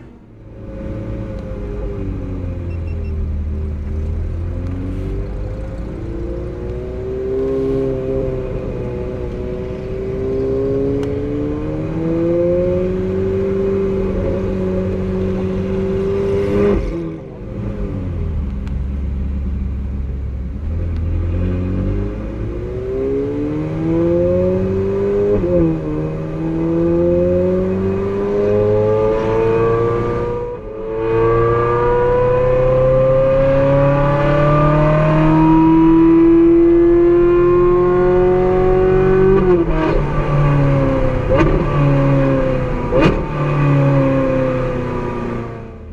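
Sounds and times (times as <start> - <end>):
sports car engine accelerating: 0.0 - 45.9.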